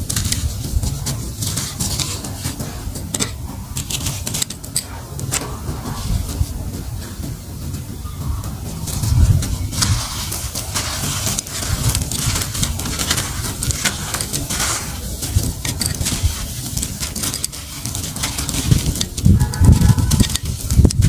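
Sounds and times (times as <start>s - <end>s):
low rumble of handling: 0.0s - 21.0s.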